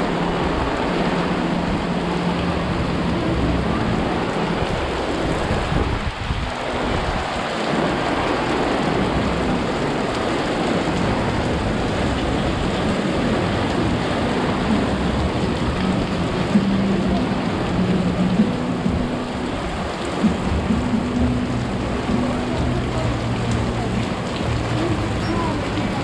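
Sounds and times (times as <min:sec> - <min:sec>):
rain drumming on umbrella: 0:00.0 - 0:26.0
rain splashing on pavement: 0:00.0 - 0:26.0.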